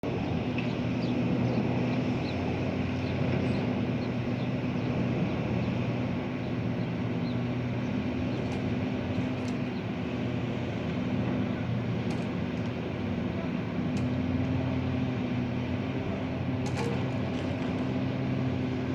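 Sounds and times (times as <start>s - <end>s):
diesel engine humming: 0.1s - 18.9s.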